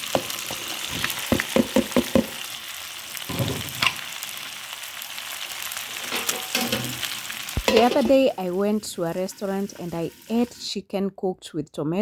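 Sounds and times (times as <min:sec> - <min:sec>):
chicken sizzling in a pot: 0:00.0 - 0:10.7.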